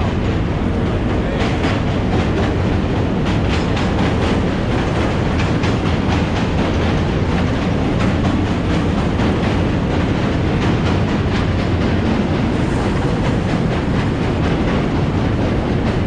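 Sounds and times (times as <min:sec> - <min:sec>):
train low rumble: 0:00.0 - 0:16.0
train wheels clattering over rail joints: 0:00.0 - 0:16.0.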